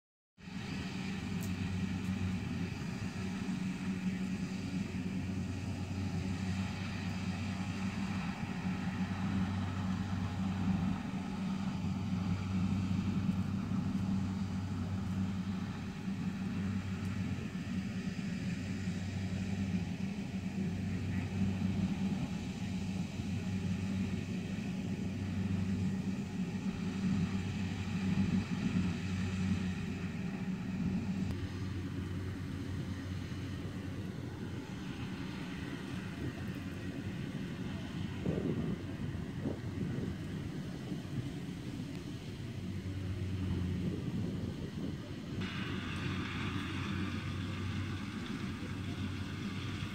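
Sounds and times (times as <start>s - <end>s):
combine harvester diesel engine: 0.4s - 49.9s.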